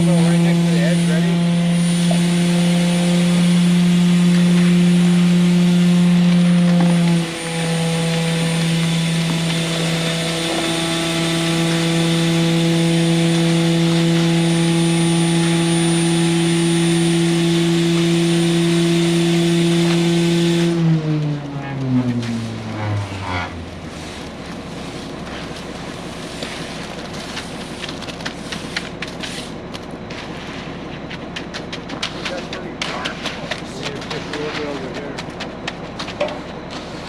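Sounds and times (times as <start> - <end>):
truck engine droning: 0.0 - 37.0.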